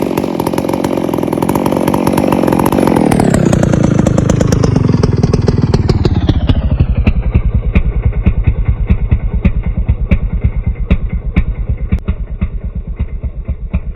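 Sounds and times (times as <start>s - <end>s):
chainsaw engine running: 0.0s - 13.9s.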